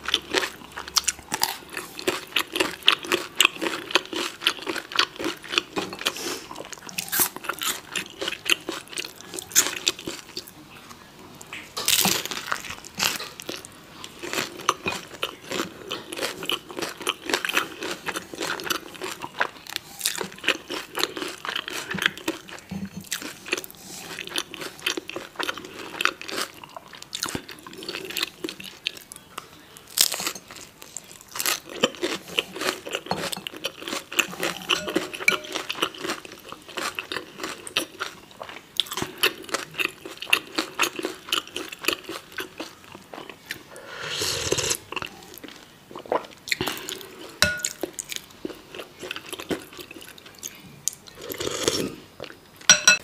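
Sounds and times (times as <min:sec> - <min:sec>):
chewing and crunching taco: 0:00.0 - 0:52.8.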